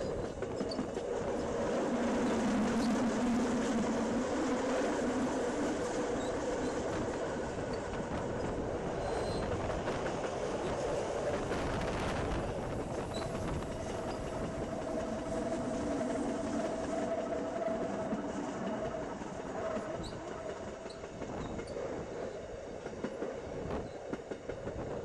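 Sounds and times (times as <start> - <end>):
train whining tone: 0.0 - 25.0
wheels rumbling on rails: 0.0 - 25.0.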